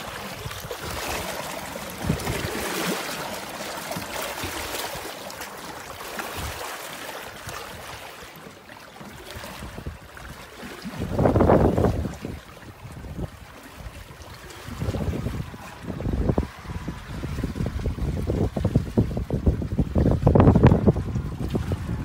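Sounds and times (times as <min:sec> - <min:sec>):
water rushing along hull: 0:00.0 - 0:22.0.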